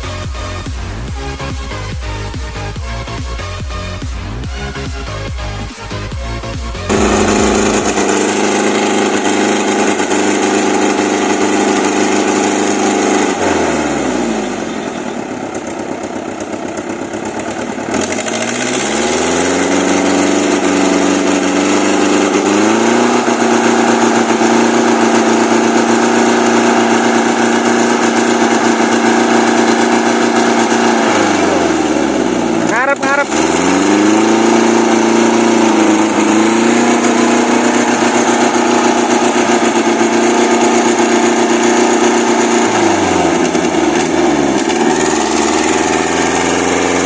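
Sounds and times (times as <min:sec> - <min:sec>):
truck engine revving: 0:00.1 - 0:47.0.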